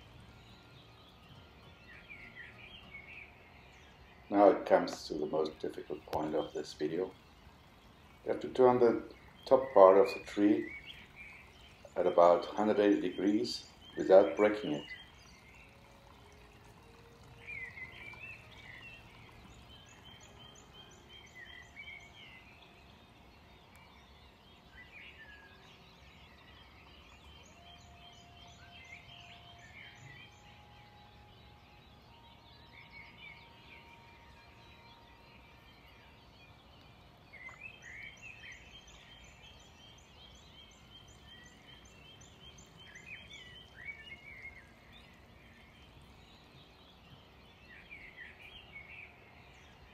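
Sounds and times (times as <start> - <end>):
birds chirping and trilling: 0.0 - 49.9
low outdoor background hum: 0.0 - 49.9.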